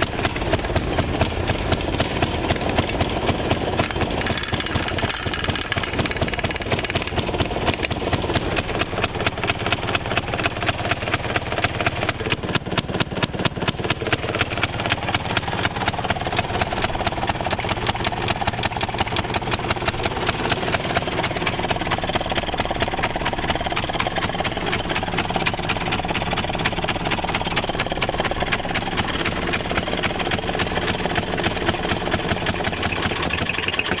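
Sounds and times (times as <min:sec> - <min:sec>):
two-stroke engine running: 0:00.0 - 0:34.0.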